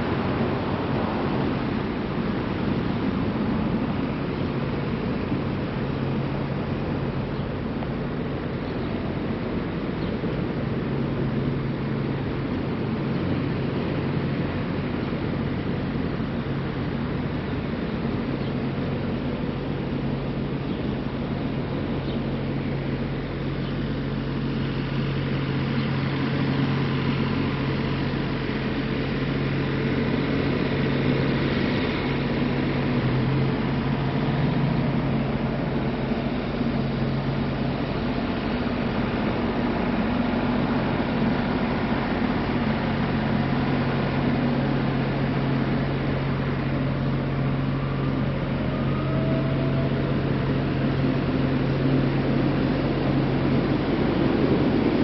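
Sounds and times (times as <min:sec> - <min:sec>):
low mechanical hum: 0:00.0 - 0:55.0
traffic on busy avenue: 0:00.0 - 0:55.0.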